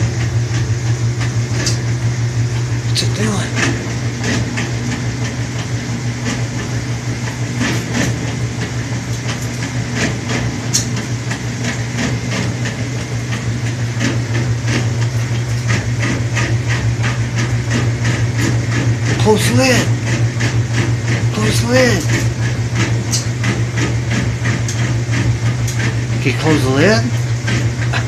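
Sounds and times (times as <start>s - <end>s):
laundry machine humming: 0.0s - 28.0s.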